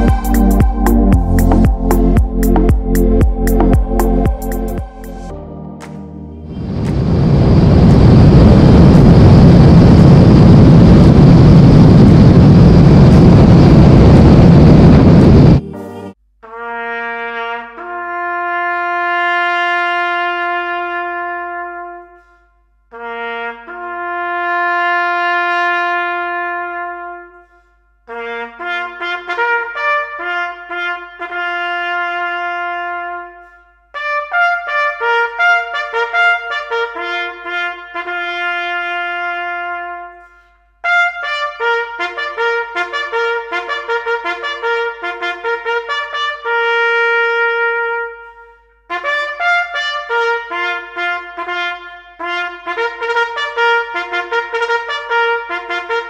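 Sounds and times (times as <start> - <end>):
solo trumpet melody: 0.0 - 56.0.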